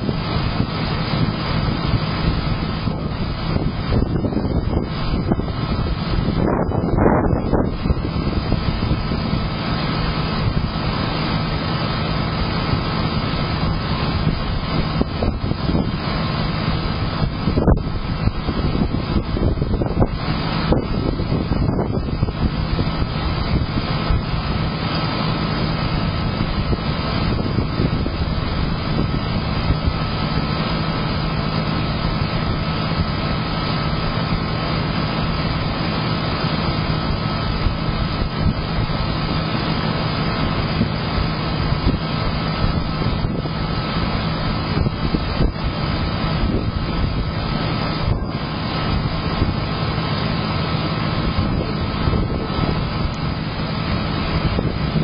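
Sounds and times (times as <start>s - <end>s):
constant low hum: 0.0s - 55.0s
storm wind roaring: 0.0s - 55.0s.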